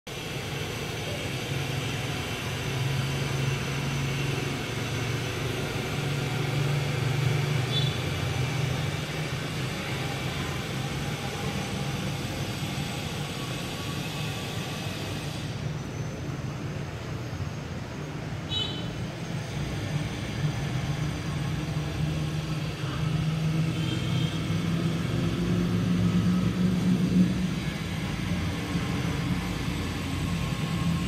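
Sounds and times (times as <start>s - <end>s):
low mechanical drone: 0.1s - 31.0s.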